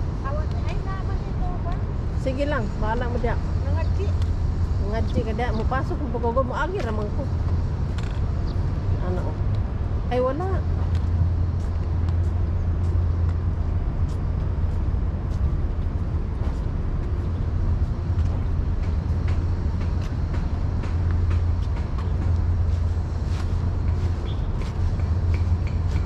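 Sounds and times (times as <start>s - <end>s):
low city rumble: 0.0s - 26.0s.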